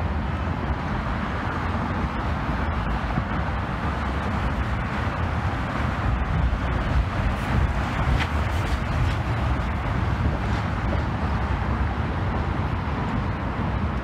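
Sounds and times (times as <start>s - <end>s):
road traffic noise: 0.0s - 14.0s
wind buffeting microphone: 0.0s - 14.0s.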